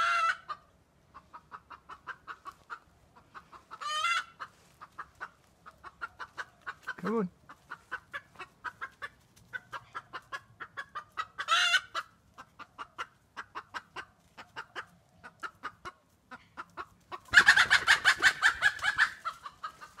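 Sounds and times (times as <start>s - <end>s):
chicken squawk: 0.0s - 16.0s, 16.6s - 20.0s
chicken clucking: 0.0s - 20.0s.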